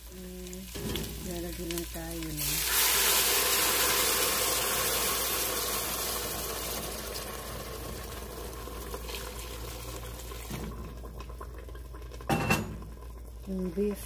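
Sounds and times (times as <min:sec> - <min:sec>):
broth pouring into a pot: 0:00.0 - 0:14.0.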